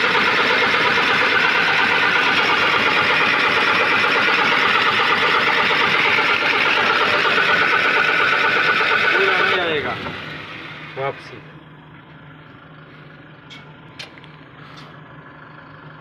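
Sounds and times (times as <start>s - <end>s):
diesel engine cranking on starter: 0.0s - 16.0s.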